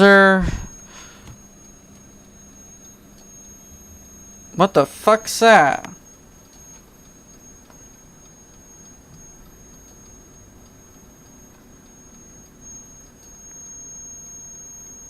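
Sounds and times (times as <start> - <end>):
cassette deck high whine: 0.0 - 15.0
faint even ticking: 0.0 - 15.0.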